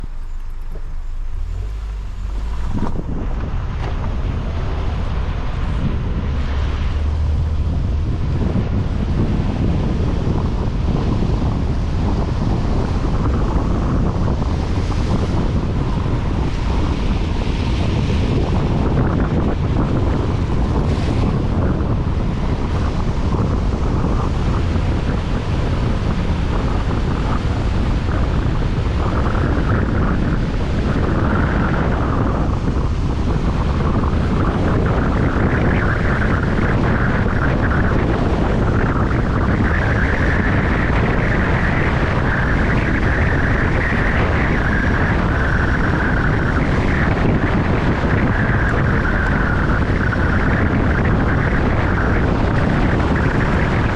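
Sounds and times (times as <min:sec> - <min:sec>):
vehicle road noise: 0:00.0 - 0:53.9
wind buffeting microphone: 0:00.0 - 0:53.9.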